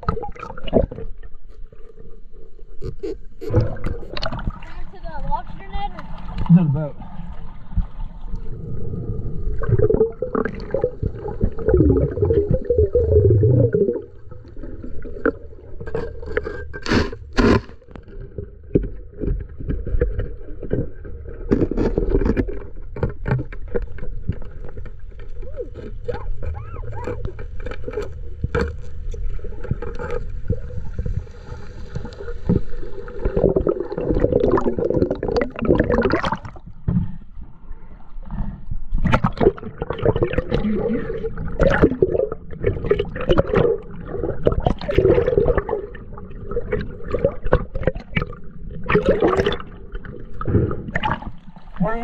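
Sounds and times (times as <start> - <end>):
underwater bubbles gurgling: 0.0 - 52.0.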